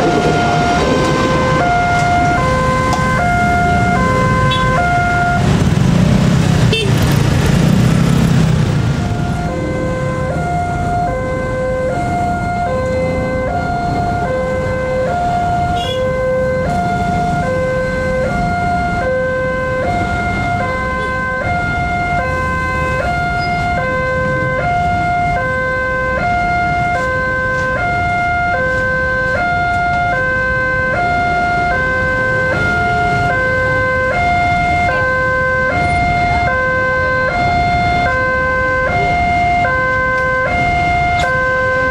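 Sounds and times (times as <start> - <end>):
two-tone crossing alarm: 0.0 - 5.7, 8.7 - 41.9
motorcycle and car traffic: 0.0 - 41.9.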